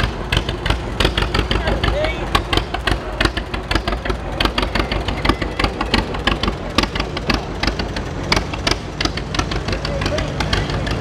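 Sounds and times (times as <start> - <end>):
tractor engine popping exhaust: 0.0 - 11.0.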